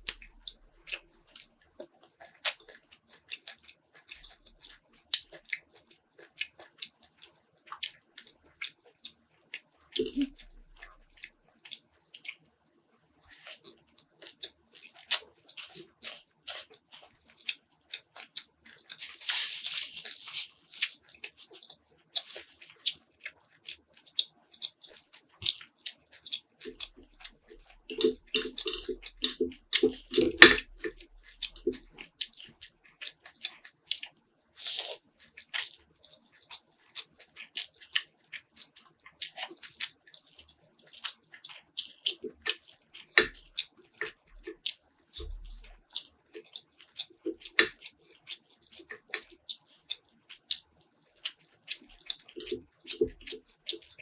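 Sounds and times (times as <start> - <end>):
person chewing noodles: 0.0 - 12.5, 13.2 - 54.0.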